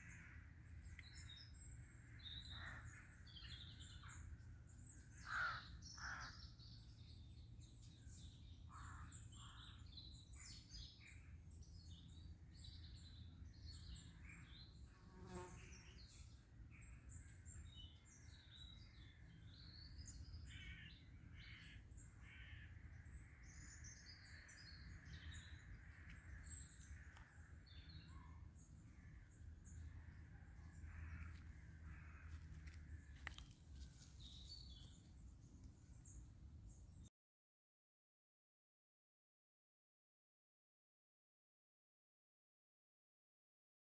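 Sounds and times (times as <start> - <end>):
small birds chirping: 0.0 - 37.1.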